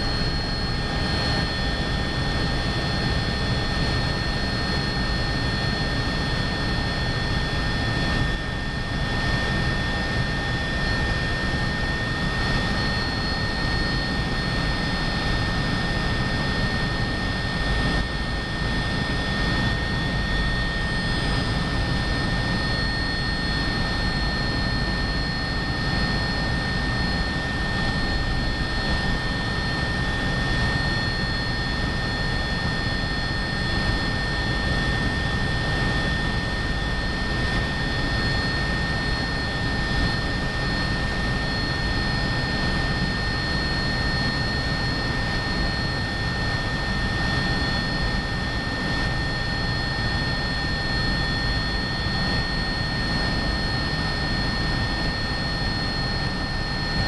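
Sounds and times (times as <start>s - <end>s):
helicopter engines and rotor rumble: 0.0s - 57.0s.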